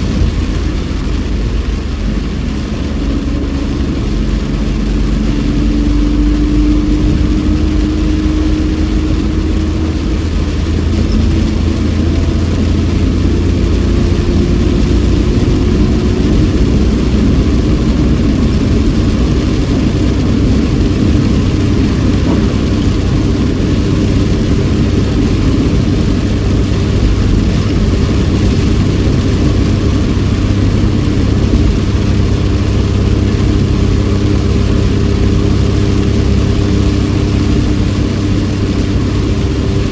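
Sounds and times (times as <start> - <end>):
car engine running: 0.0 - 39.9
heavy rain on car: 0.0 - 39.9
tyre and road noise: 0.0 - 39.9.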